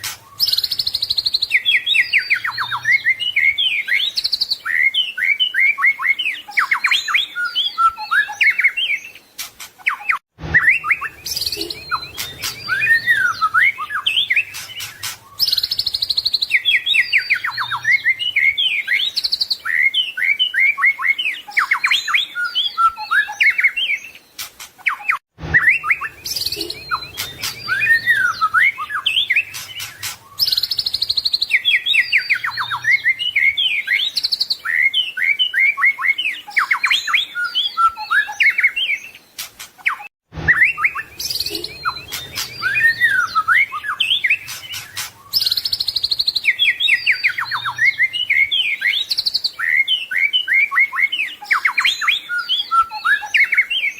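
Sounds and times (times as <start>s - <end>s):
songbird singing whistles and trills: 0.0s - 53.9s.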